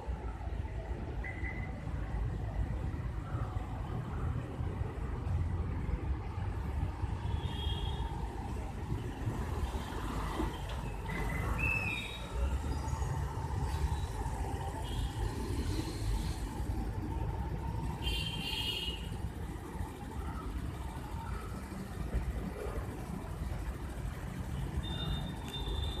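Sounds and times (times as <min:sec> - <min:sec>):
low rumble of vehicles: 0:00.0 - 0:26.0.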